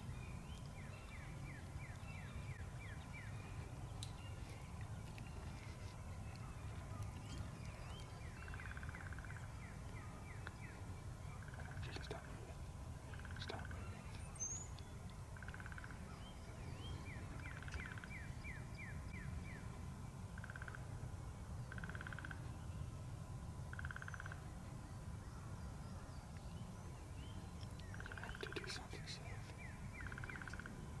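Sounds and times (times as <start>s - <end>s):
low rumble of wind: 0.0s - 31.0s.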